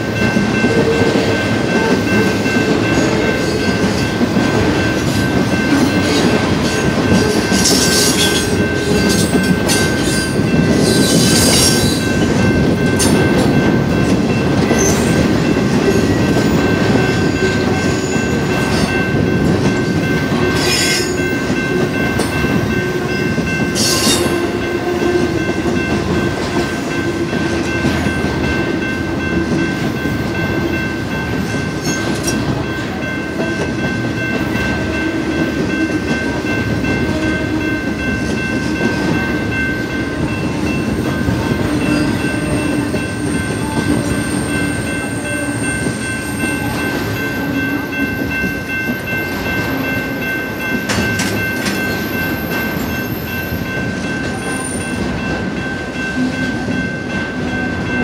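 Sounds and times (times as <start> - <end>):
freight train rumble and wheel clatter: 0.0 - 58.0
high ringing tone: 4.8 - 58.0.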